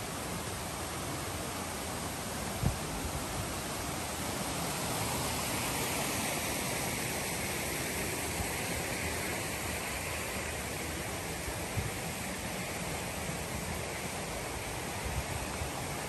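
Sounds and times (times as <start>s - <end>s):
creek running over stones: 0.0s - 16.0s.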